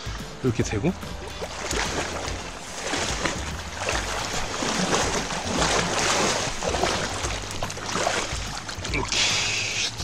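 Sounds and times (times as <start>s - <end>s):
stream water splashing: 1.0s - 10.0s.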